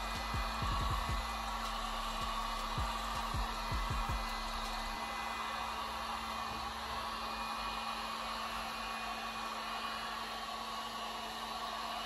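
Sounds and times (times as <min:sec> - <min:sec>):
heat gun blowing: 0:00.0 - 0:12.0.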